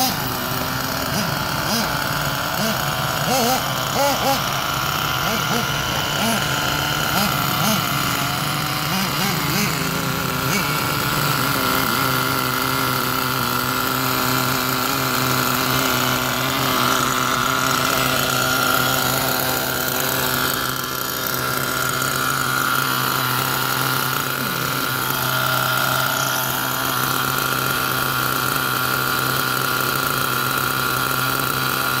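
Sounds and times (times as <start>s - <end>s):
small nitro engine idling: 0.0s - 32.0s.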